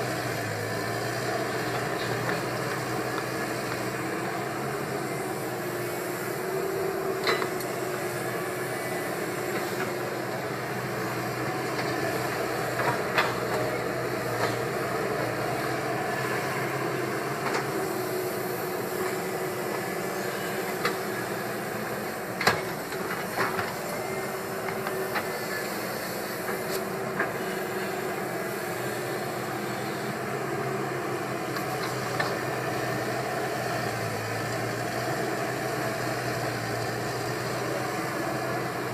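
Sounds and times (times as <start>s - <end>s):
hydraulic excavator running: 0.0s - 38.9s.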